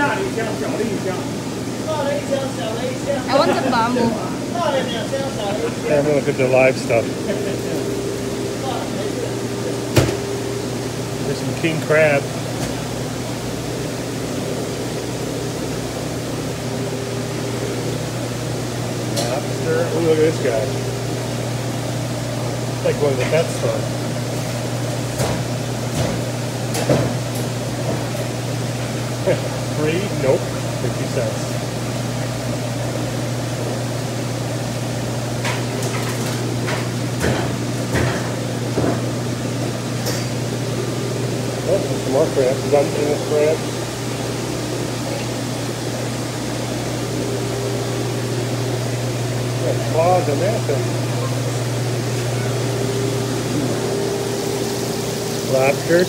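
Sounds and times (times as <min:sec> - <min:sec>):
machinery hum and hiss: 0:00.0 - 0:56.0.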